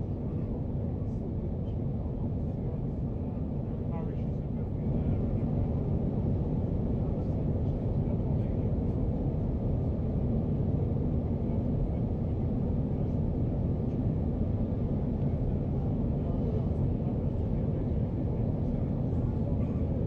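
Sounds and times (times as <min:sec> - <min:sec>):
jet engine rumble in cabin: 0:00.0 - 0:20.0.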